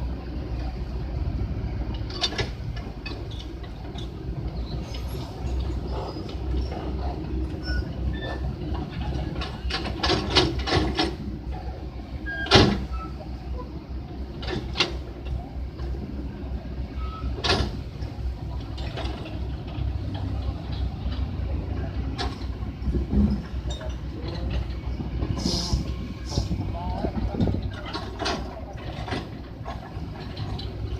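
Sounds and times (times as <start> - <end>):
truck engine rumbling: 0.0 - 30.9.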